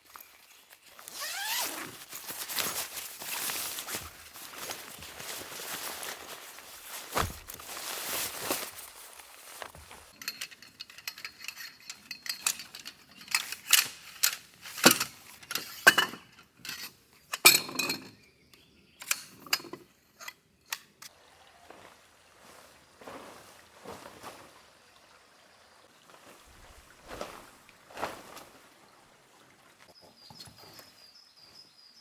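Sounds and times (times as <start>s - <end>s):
rustle: 0.0s - 16.0s, 21.0s - 31.7s.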